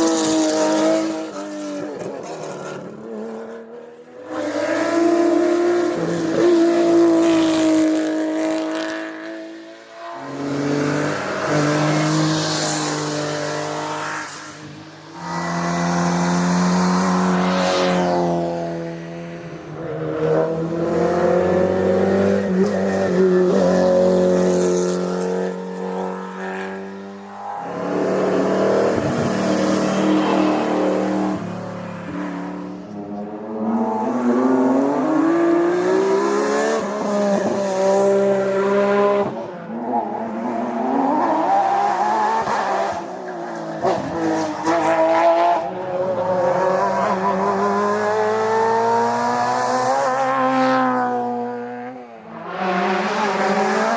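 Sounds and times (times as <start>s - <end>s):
racing car engines revving: 0.0s - 53.9s.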